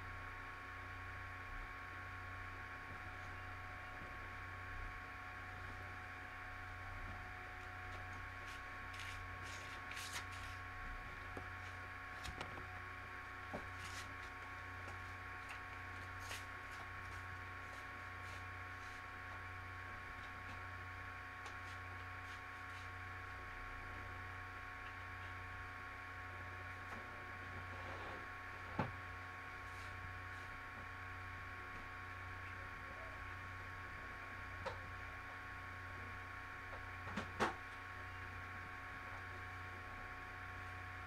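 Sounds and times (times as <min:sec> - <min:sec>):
electrical hum and hiss: 0:00.0 - 0:41.0.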